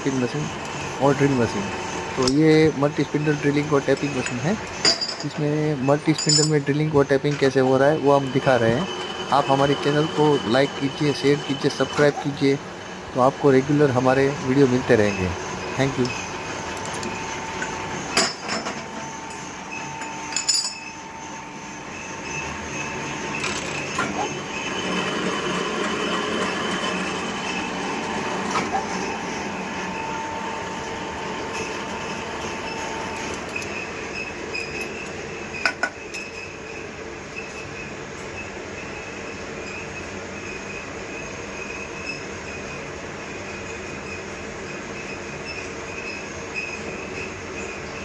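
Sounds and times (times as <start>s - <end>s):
drilling machine whining: 0.0s - 48.0s.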